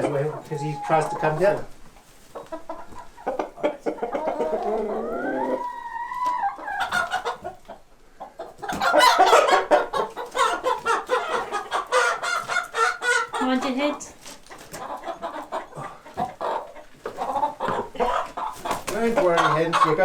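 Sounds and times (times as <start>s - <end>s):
young chickens clucking and squawking: 0.0s - 20.0s.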